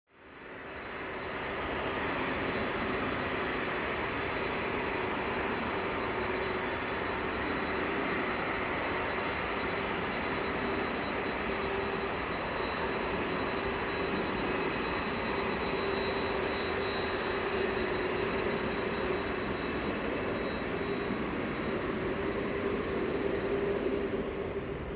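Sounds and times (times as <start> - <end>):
jet engines running: 0.1 - 24.9.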